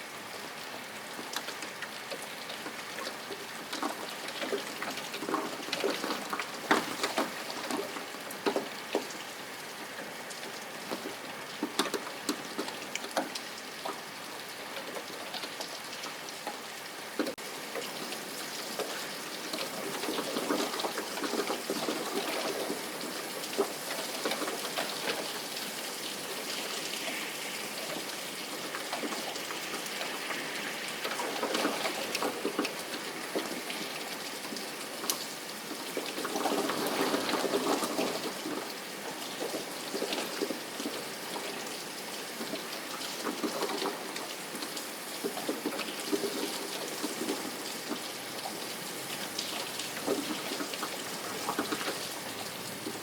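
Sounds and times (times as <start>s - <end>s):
steady rain with drop ticks: 0.0s - 53.0s.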